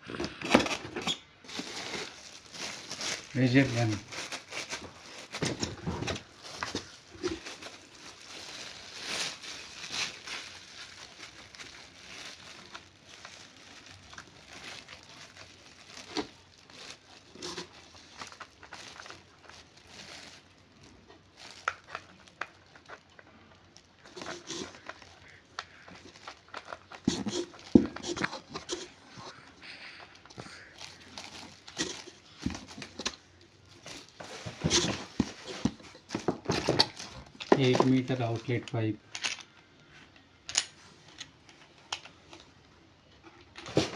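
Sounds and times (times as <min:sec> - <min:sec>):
plastic packaging crinkling: 0:00.0 - 0:39.6.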